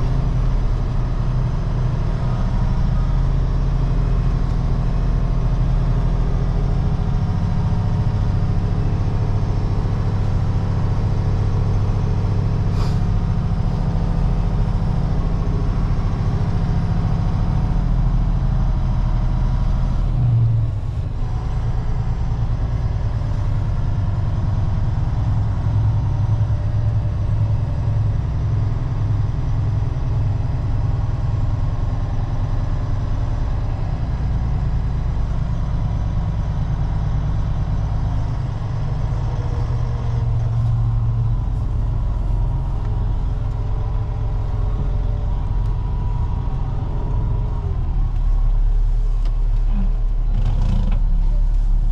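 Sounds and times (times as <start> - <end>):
truck diesel engine running: 0.0 - 51.9.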